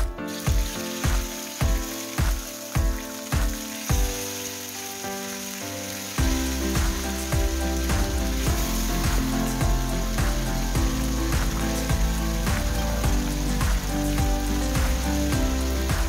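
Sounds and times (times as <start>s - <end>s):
background music with beat: 0.0s - 5.0s, 6.1s - 16.0s
chicken sizzling in oil: 0.0s - 16.0s.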